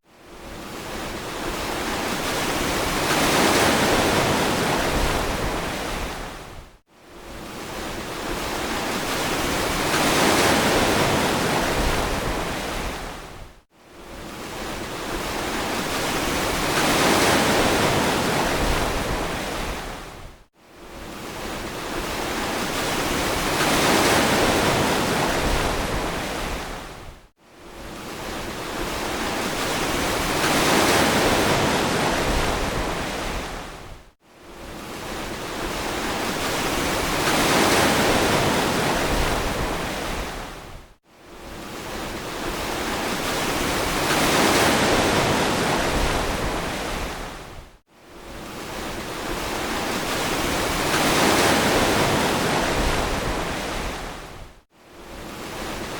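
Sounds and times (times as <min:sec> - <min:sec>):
ocean waves on a beach: 0:00.0 - 0:55.9.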